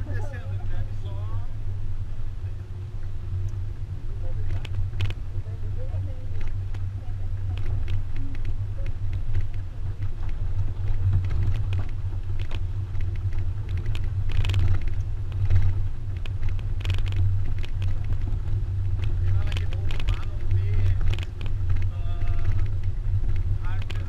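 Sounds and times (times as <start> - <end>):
pickup truck engine and road noise: 0.0 - 24.0.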